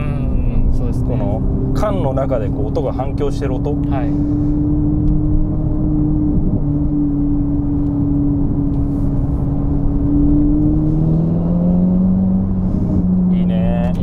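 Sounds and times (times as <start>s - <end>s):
car engine droning: 0.0s - 14.0s
road rumble: 0.0s - 14.0s.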